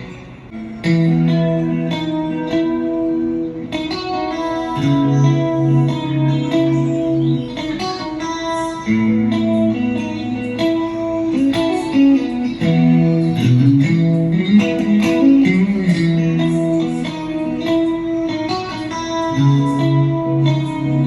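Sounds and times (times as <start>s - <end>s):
electric guitar notes and chords: 0.0s - 21.0s.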